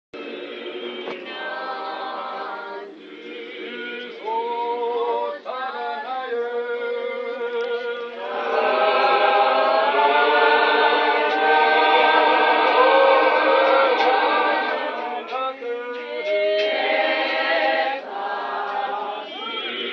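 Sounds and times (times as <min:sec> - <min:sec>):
congregation singing a hymn: 0:00.2 - 0:19.9.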